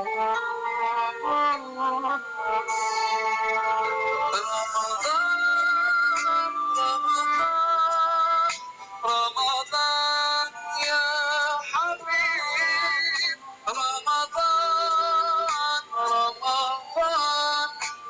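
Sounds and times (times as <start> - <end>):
synthetic background music: 0.0 - 18.0.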